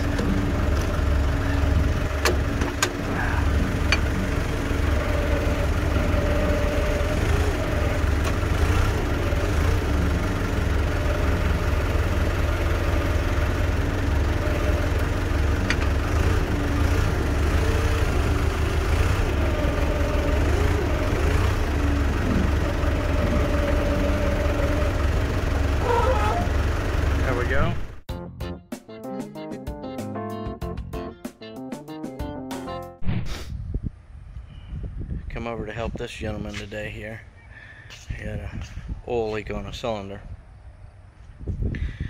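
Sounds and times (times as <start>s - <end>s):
engine running steadily: 0.0s - 28.0s, 33.8s - 42.0s.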